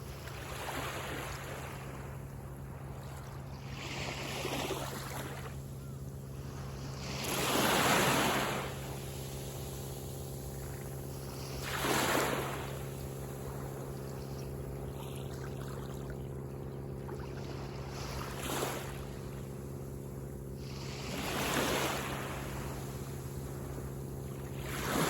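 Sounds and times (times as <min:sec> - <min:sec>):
small waves washing up beach: 0:00.0 - 0:05.6, 0:06.4 - 0:25.0
steady low hum: 0:00.0 - 0:25.0.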